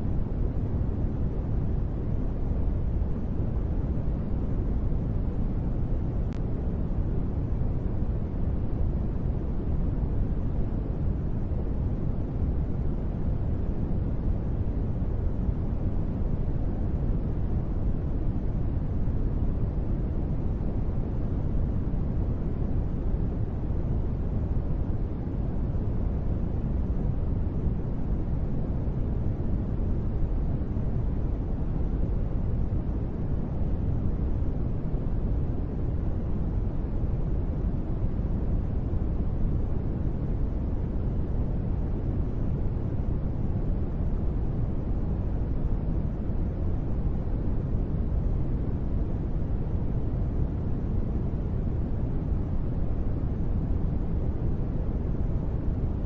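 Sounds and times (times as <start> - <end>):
muffled deep rain noise: 0.0 - 56.0.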